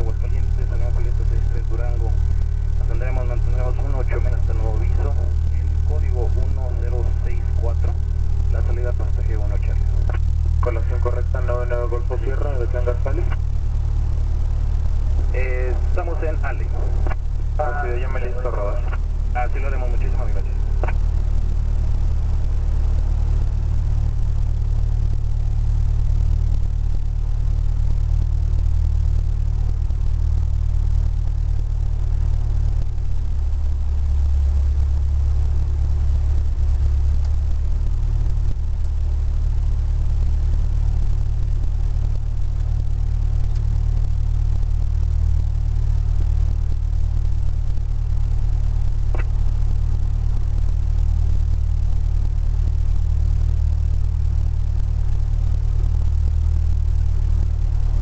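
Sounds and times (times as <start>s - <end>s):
aircraft engine idling: 0.0s - 58.0s.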